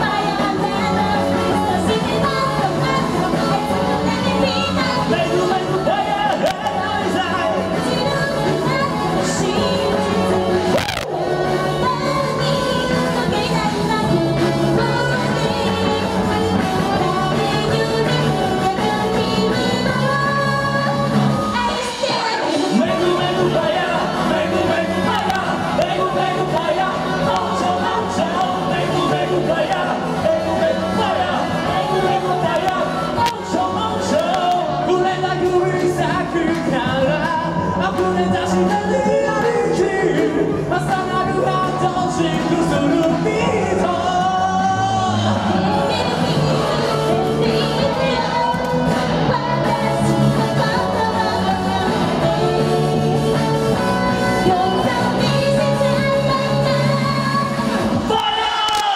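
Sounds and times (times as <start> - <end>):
band playing pop-rock song: 0.0 - 58.9
people singing into microphones: 0.0 - 58.9.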